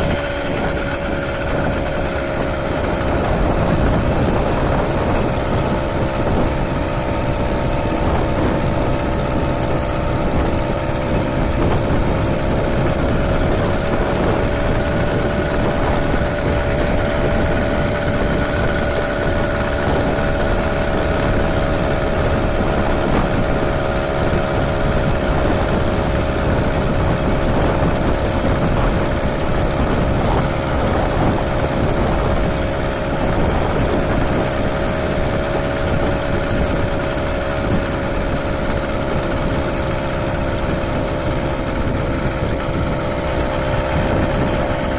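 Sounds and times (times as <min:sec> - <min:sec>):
small engine running: 0:00.0 - 0:44.9
steady rushing noise: 0:00.0 - 0:44.9.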